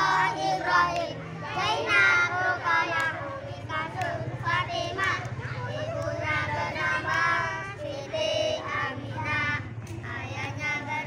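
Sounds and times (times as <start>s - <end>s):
children singing a cheer song: 0.0s - 11.0s.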